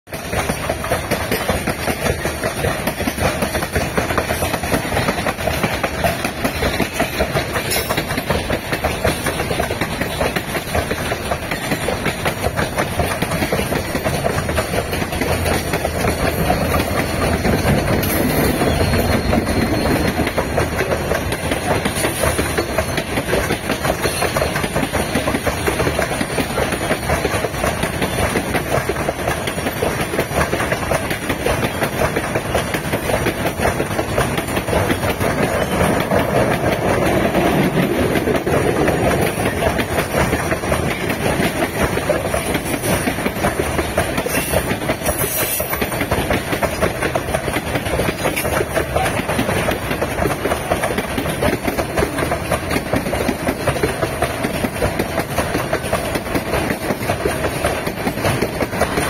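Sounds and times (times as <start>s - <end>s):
train wheels on track: 0.0s - 59.0s
diesel locomotive passing: 0.1s - 59.0s.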